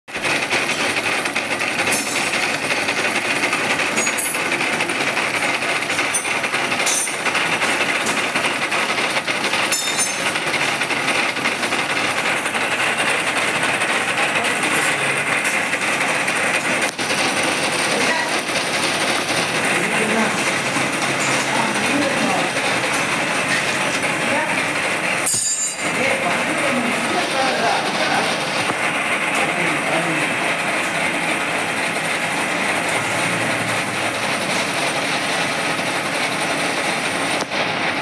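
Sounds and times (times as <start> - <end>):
milling cutter cutting metal: 0.1 - 35.3.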